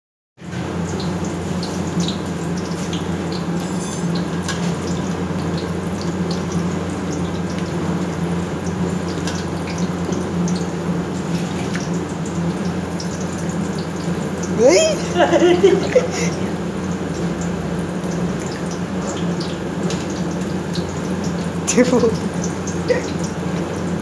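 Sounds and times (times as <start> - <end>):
oil sizzling and popping: 0.4 - 24.0
low steady hum: 0.5 - 24.0.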